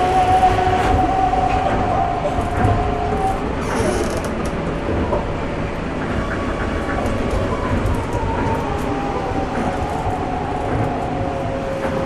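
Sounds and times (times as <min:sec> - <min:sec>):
train tyres rumbling on guideway: 0:00.0 - 0:12.0.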